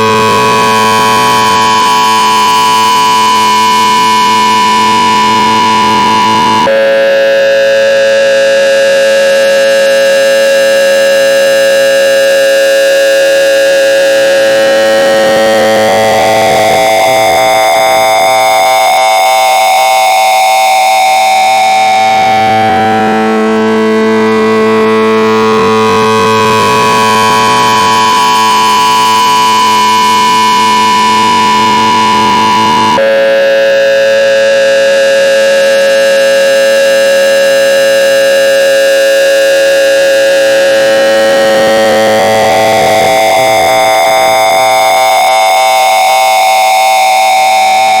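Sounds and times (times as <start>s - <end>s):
harsh electronic tones: 0.0s - 48.0s
noisy buzz: 0.0s - 48.0s.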